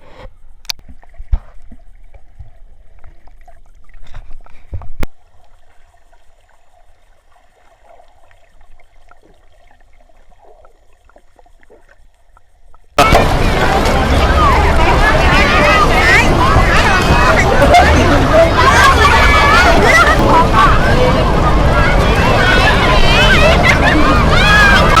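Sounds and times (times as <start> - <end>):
seawater trickling and lapping: 0.0 - 25.0.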